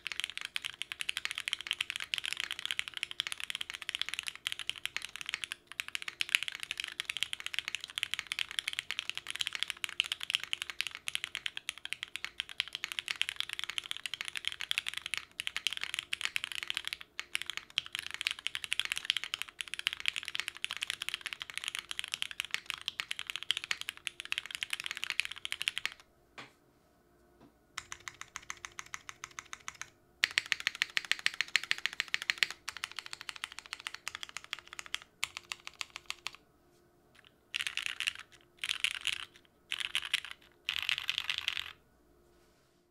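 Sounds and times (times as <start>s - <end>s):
mechanical keyboard typing: 0.0s - 26.0s, 27.8s - 36.4s, 37.2s - 41.8s.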